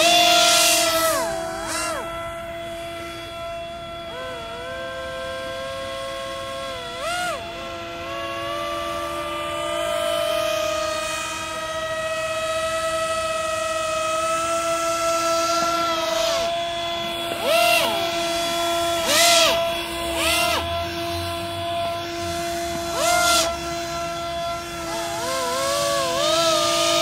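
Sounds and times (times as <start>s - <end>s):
model hovercraft motors whining: 0.0s - 27.0s.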